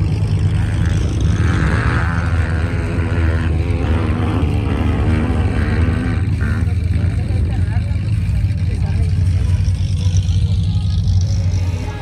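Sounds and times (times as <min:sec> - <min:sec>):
distant vehicle engine revving: 0:00.0 - 0:12.0.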